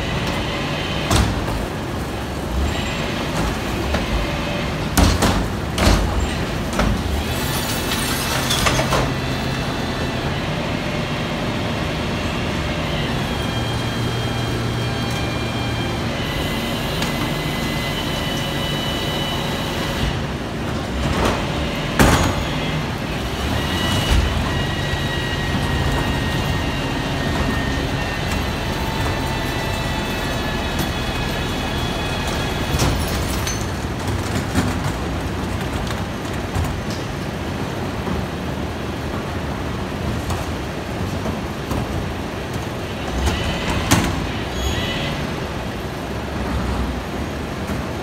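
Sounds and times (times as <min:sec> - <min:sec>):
garbage truck engine running: 0:00.0 - 0:48.0.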